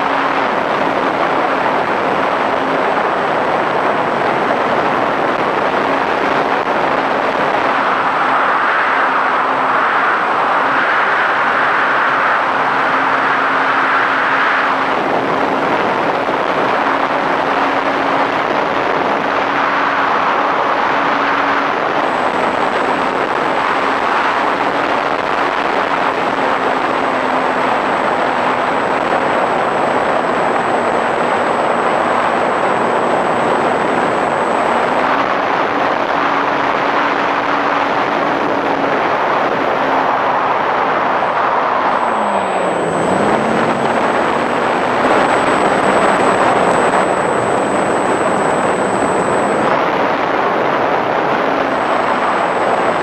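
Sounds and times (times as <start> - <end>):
electric motor and propeller hum: 0.0 - 53.0.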